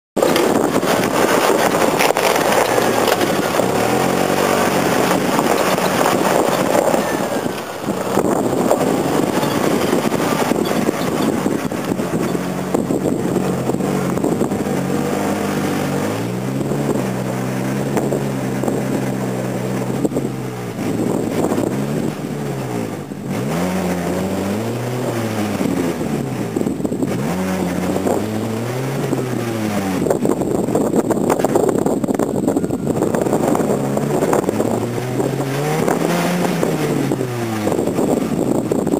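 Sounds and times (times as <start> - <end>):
off-road vehicle engine revving: 0.2 - 38.9.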